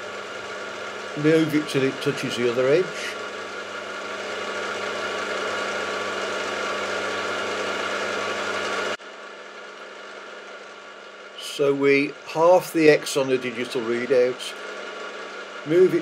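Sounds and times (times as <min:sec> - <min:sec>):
milling machine whining: 0:00.0 - 0:16.0.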